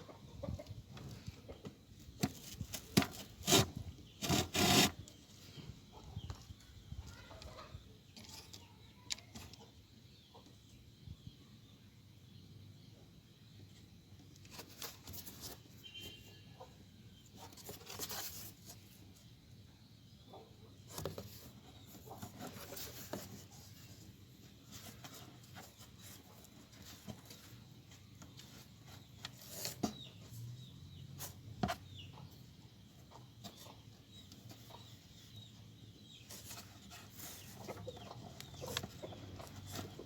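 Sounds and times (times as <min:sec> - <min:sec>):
birds clucking and chirping: 0:00.0 - 0:11.2, 0:16.5 - 0:40.0.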